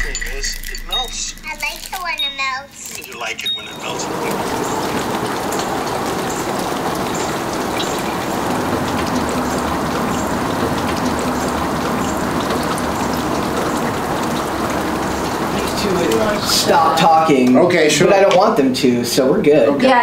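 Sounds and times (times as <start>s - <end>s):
wet snow falling: 0.0s - 17.4s
drops ticking: 0.0s - 18.6s.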